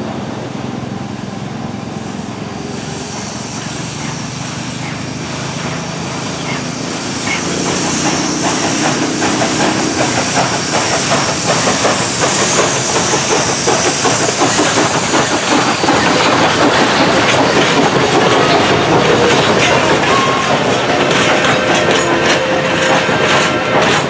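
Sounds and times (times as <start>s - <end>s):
steam locomotive exhaust chuffs: 0.0s - 24.0s
steam hissing: 0.5s - 24.0s
train wheels clickety-clack: 0.5s - 24.0s.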